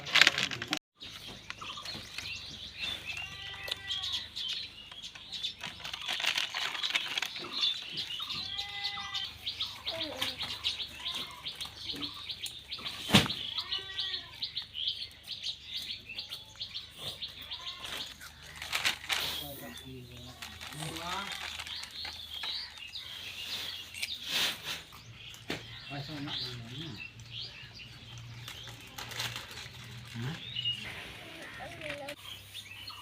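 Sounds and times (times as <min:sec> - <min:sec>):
small birds chirping rapidly: 0:00.0 - 0:33.0.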